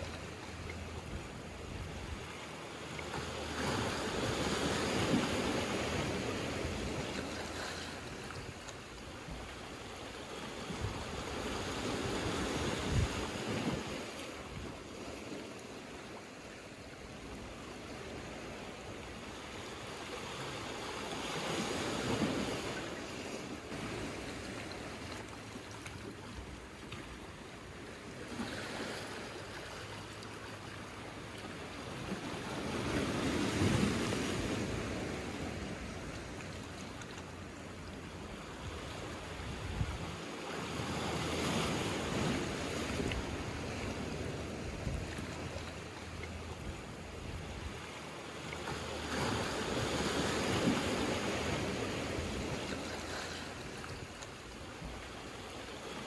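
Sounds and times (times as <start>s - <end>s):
waves washing over rocks: 0.0s - 56.0s.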